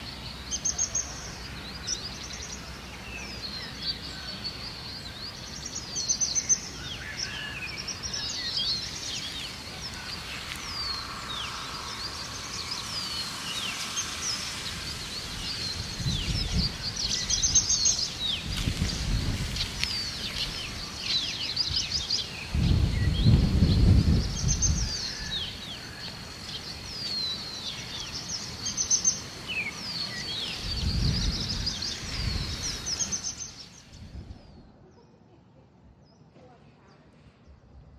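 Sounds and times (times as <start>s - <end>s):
birds chirping and singing: 0.0s - 34.7s.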